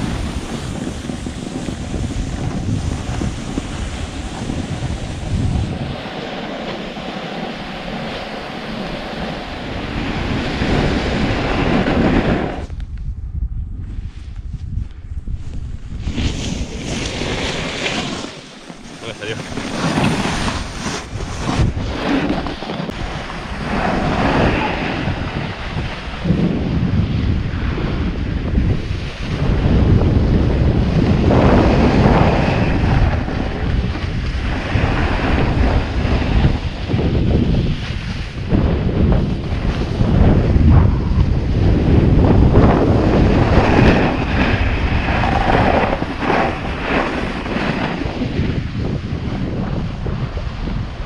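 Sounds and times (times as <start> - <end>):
snowboard scraping on snow: 0.0 - 12.7, 15.3 - 51.0
wind buffeting microphone: 0.0 - 51.0.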